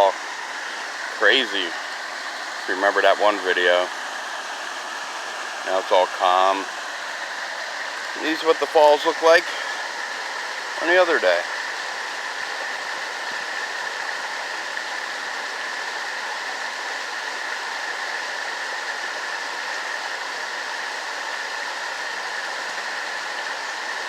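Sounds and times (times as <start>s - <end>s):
water pouring over rocks: 0.0s - 24.0s.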